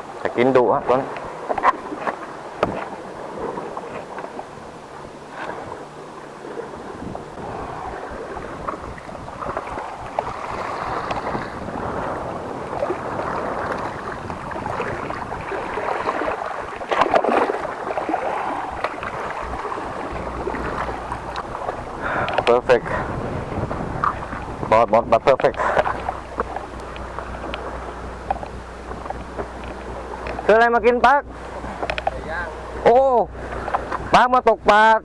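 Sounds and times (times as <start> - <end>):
wind buffeting microphone: 0.0 - 34.8
sea waves washing against rocks: 0.0 - 34.9.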